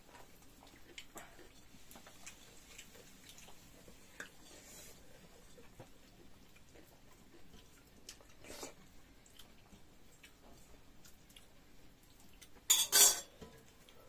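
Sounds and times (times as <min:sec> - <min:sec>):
person chewing food: 0:00.1 - 0:12.7, 0:13.3 - 0:14.0.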